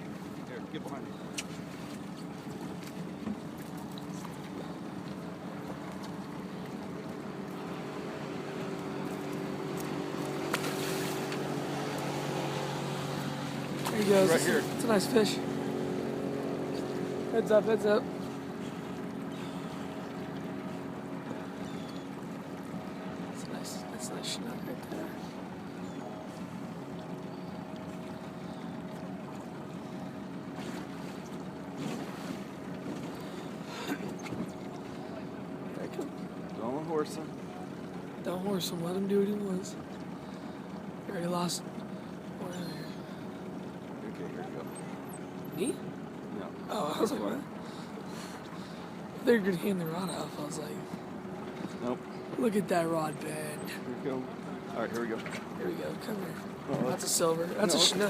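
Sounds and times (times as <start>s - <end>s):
outboard motor running: 0.0s - 58.0s
river water moving: 0.0s - 58.0s.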